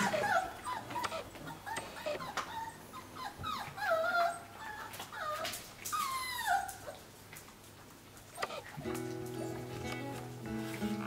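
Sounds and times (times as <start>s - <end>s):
puppies whimpering and whining: 0.0s - 7.1s, 8.3s - 11.0s.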